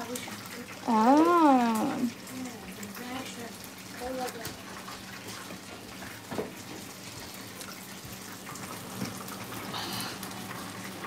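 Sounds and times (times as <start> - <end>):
fish deep-frying in oil: 0.0 - 11.0.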